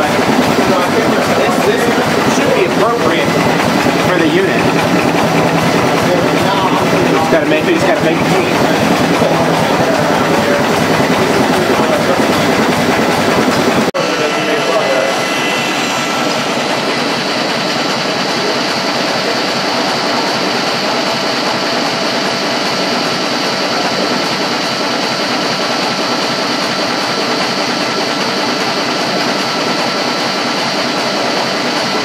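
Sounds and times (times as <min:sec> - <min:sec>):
generator high whine: 0:00.0 - 0:32.0
stationary engine mechanical beat: 0:00.0 - 0:32.0.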